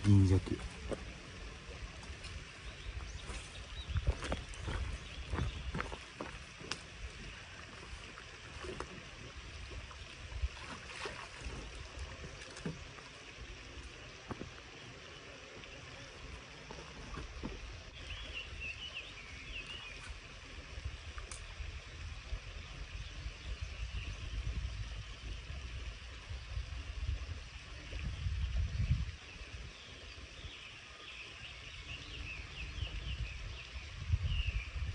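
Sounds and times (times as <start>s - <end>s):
wind rumbling on microphone: 0.0s - 14.6s, 16.7s - 34.9s.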